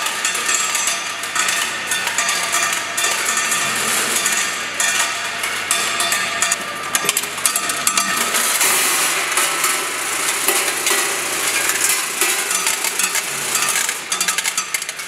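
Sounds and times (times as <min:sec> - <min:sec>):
metal fasteners clattering: 0:00.0 - 0:15.0
vibratory bowl feeders running: 0:00.0 - 0:15.0.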